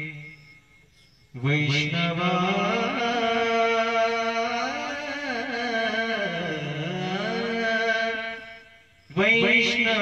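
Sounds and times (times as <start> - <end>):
man singing devotional song: 0.0 - 10.0.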